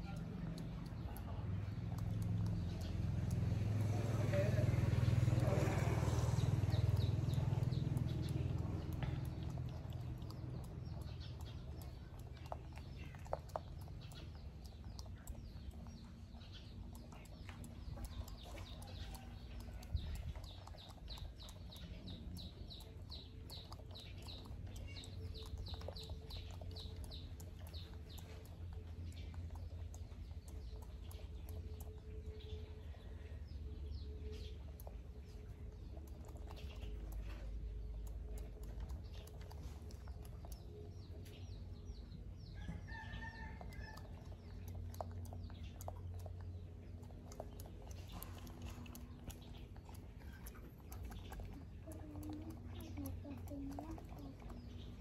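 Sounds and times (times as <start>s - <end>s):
low steady rumble: 0.0s - 55.0s.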